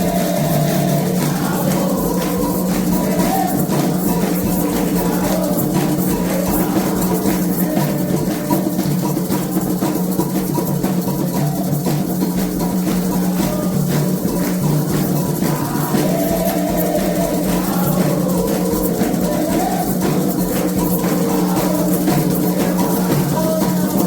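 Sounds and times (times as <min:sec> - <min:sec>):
hand drums rhythm: 0:00.0 - 0:24.0
rattling shakers: 0:00.0 - 0:24.0.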